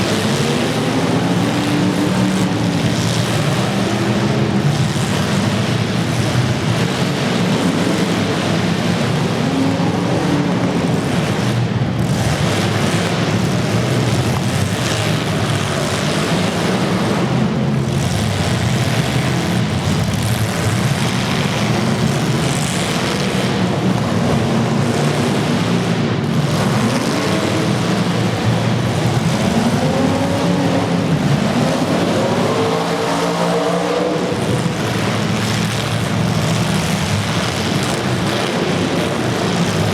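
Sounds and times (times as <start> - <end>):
car engines running and revving: 0.0 - 39.9.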